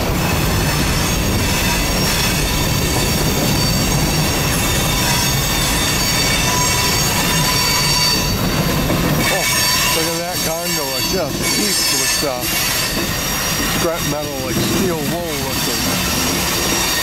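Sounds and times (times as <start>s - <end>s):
train wheels rumbling on rails: 0.0s - 17.0s
high-pitched wheel squeal: 0.3s - 17.0s.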